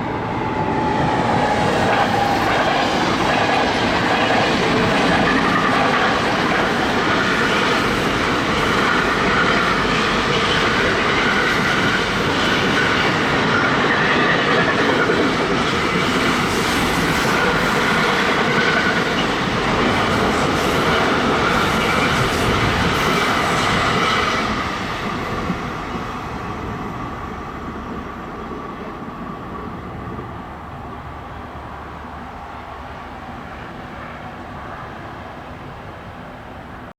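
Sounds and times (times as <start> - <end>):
train wheels on rails: 0.0 - 36.0.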